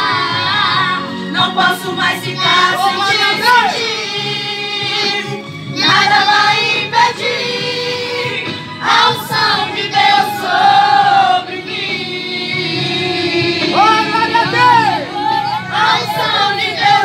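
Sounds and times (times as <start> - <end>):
women singing a hymn: 0.0 - 17.0.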